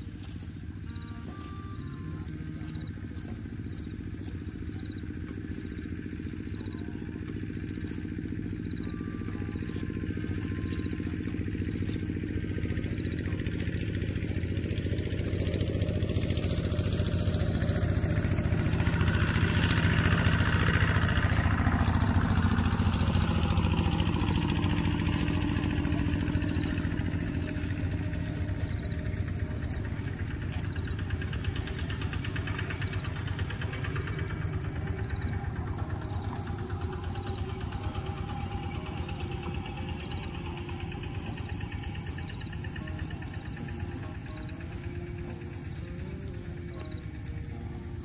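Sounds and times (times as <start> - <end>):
vehicle engine passing by: 0.0 - 48.0.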